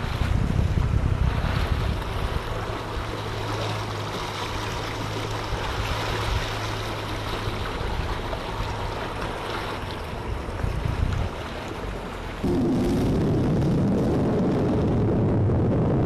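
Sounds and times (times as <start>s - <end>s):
water splashing along boat hull: 0.0s - 15.4s
boat motor humming: 1.7s - 16.0s.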